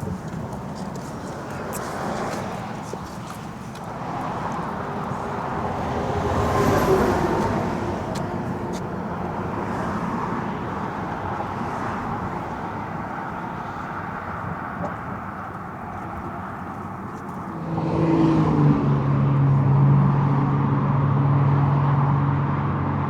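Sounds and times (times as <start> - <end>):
traffic crossing a bridge: 0.0 - 23.0
vehicle passing: 0.0 - 23.0.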